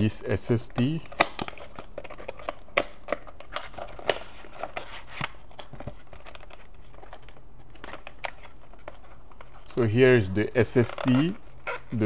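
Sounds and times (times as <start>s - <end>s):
cardboard rustling: 0.8s - 12.0s.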